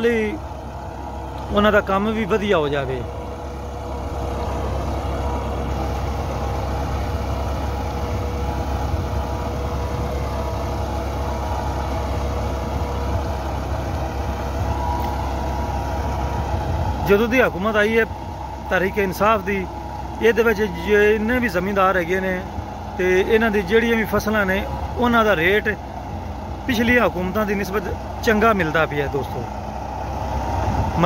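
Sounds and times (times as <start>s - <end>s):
tractor diesel engine drone: 0.0s - 31.0s.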